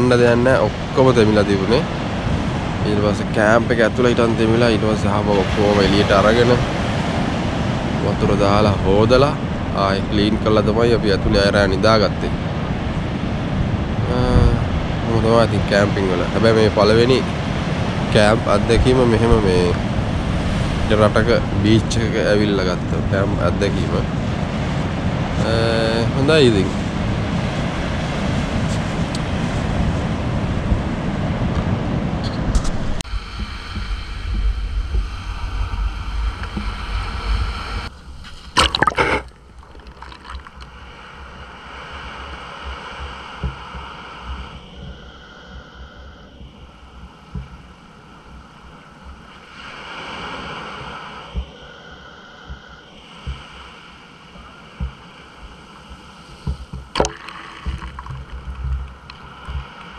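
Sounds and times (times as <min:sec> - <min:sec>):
sea surf on beach: 0:00.0 - 0:59.9
wind noise on microphone: 0:00.0 - 0:59.9.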